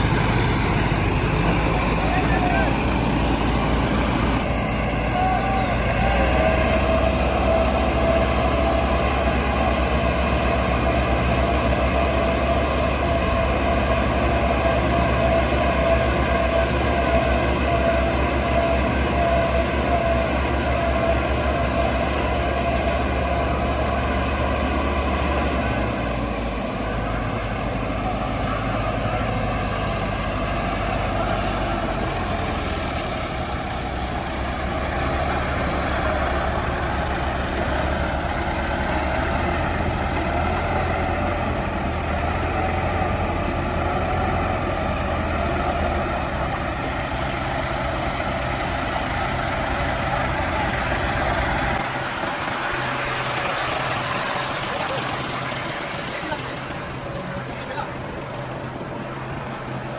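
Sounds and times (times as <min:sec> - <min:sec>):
diesel tractor engines droning: 0:00.0 - 0:59.9.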